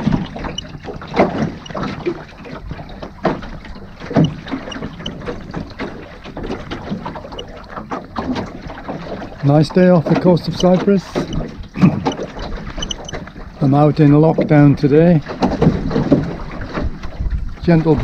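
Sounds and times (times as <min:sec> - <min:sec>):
water splashing against boat hull: 0:00.0 - 0:18.0.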